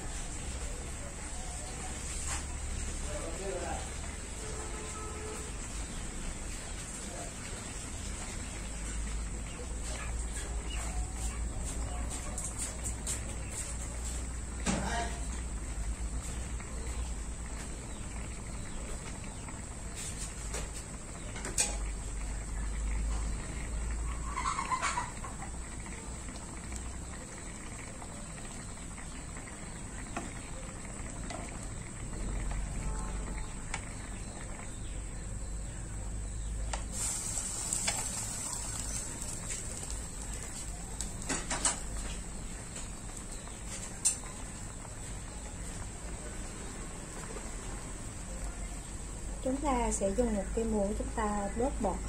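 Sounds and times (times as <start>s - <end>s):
liquid bubbling in a pan: 0.0s - 52.0s.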